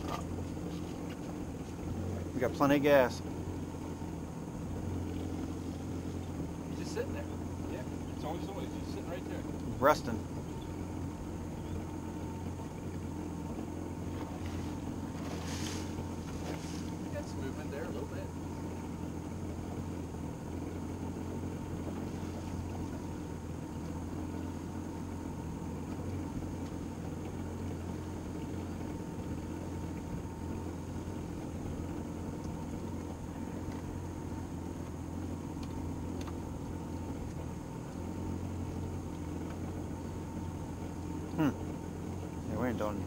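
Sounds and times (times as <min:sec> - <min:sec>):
outboard motor idling: 0:00.0 - 0:43.0.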